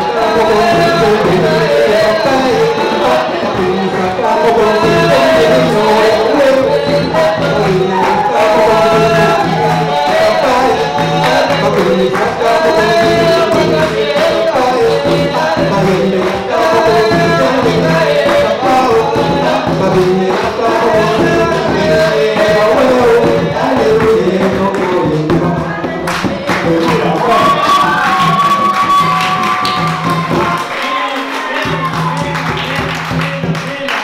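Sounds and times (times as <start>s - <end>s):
group singing worship song: 0.0s - 34.0s
hand-percussion beat: 0.0s - 34.0s
instrumental accompaniment: 0.0s - 34.0s.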